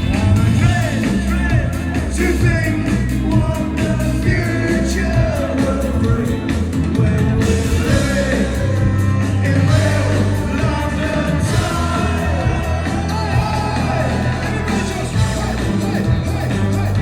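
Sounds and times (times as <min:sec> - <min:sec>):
heavy bass line: 0:00.0 - 0:17.0
live band playing: 0:00.0 - 0:17.0
person singing: 0:00.0 - 0:17.0.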